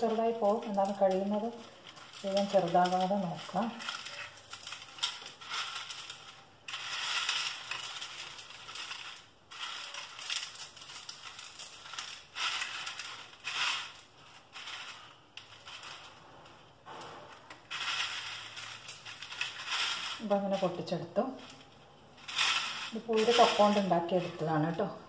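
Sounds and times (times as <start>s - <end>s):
crisp noodles crunching by hand: 0.0s - 16.6s, 17.2s - 24.4s.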